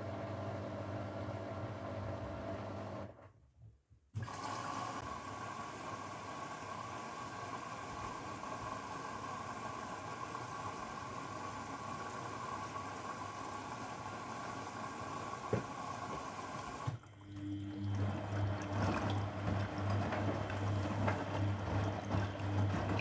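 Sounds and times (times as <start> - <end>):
washing machine taking in water: 4.2 - 23.0.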